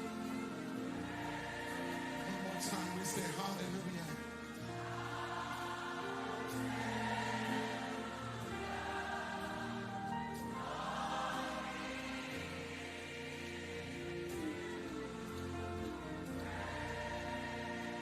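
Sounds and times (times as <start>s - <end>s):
choir singing gospel music: 0.0s - 18.0s
held instrumental accompaniment: 0.0s - 18.0s.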